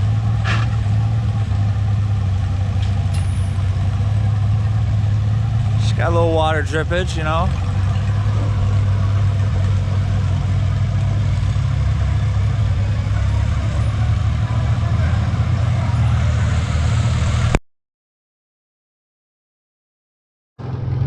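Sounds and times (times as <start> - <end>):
tractor engine running: 0.0 - 17.6.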